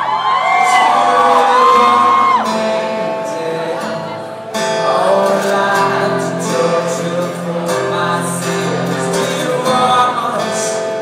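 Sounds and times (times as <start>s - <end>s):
live acoustic rock chords: 0.0s - 11.0s.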